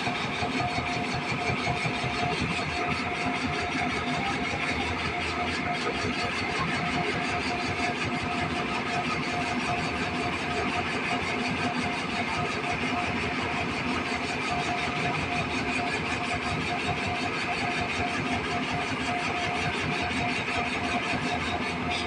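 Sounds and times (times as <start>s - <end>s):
diesel engine running: 0.0s - 22.0s
steady whine: 0.0s - 22.0s.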